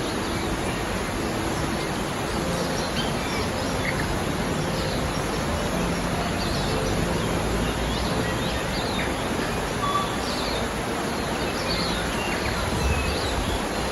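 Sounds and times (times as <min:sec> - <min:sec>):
mountain stream rushing: 0:00.0 - 0:13.9.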